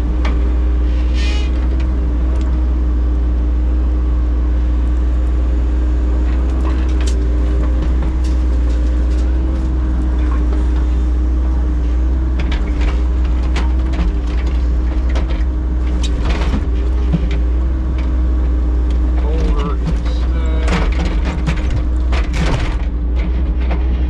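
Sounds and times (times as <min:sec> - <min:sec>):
engine rumble and hum: 0:00.0 - 0:24.0.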